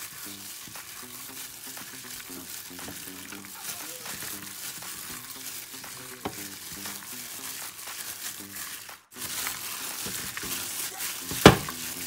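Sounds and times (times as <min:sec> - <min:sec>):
plastic glove crinkling: 0:00.0 - 0:12.0
wet squishing of kneaded meat: 0:00.0 - 0:12.0.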